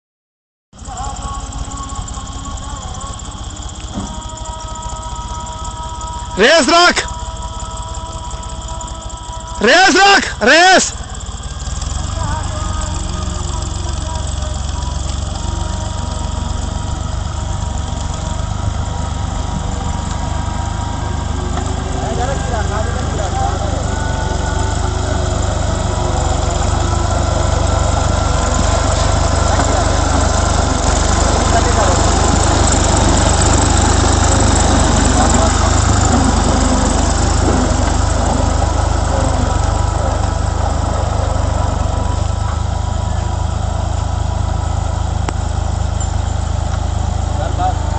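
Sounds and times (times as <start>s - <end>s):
tractor engine chugging: 0.8s - 47.9s.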